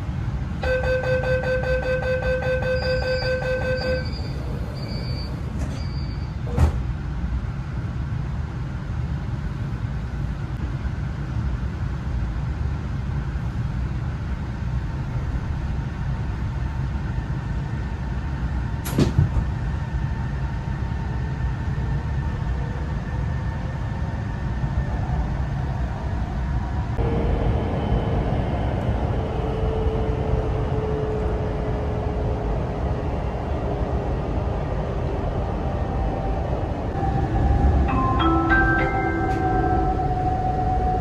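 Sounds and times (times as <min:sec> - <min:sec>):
train carriage rumble: 0:00.0 - 0:41.0.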